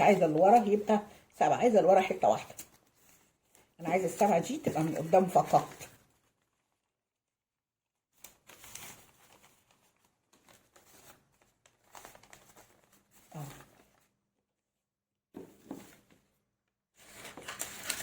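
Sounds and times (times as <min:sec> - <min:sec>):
paper rustling and crinkling: 0:00.0 - 0:07.1, 0:08.1 - 0:14.4, 0:15.4 - 0:18.0.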